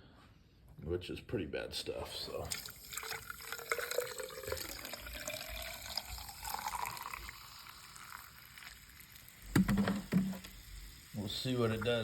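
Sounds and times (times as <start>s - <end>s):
liquid pouring into a jar: 2.4s - 12.0s.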